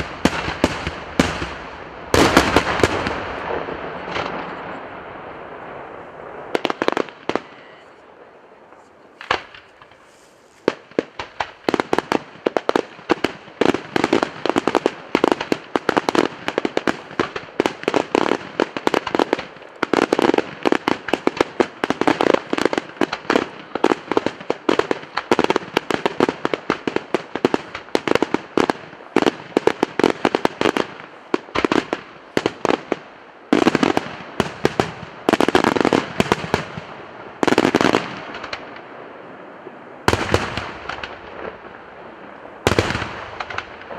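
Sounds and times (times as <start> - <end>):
rapid firecracker bangs: 0.0 - 8.0, 9.2 - 38.9, 40.0 - 43.9.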